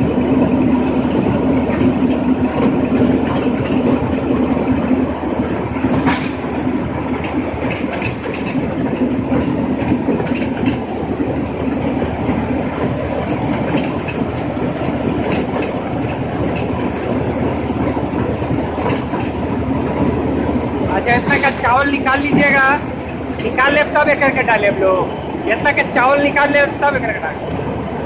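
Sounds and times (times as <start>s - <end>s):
rice mill rumbling: 0.0s - 28.0s.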